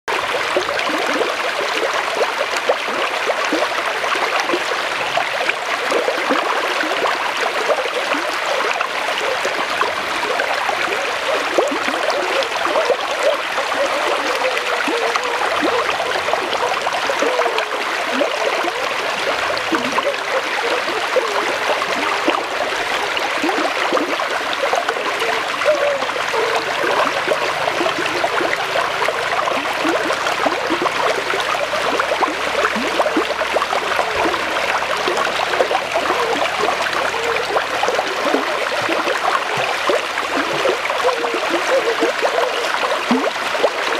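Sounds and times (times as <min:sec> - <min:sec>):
stream flowing over rocks: 0:00.1 - 0:43.9.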